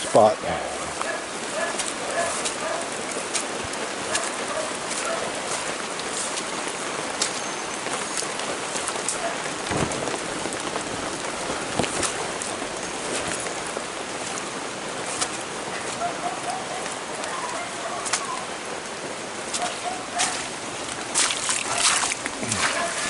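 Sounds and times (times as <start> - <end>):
heavy rain: 0.0 - 23.0
raindrops tapping: 0.0 - 23.0.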